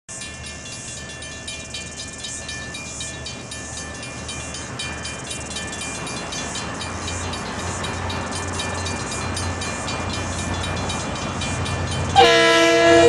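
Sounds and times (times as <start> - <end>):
level crossing alarm bells: 0.1 - 13.0
locomotive engine rumbling: 0.2 - 13.0.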